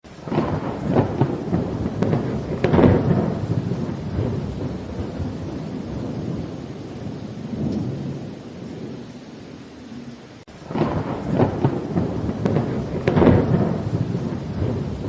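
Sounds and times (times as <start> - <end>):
steady rain: 0.0 - 15.0
thunder rumbling: 0.1 - 15.0.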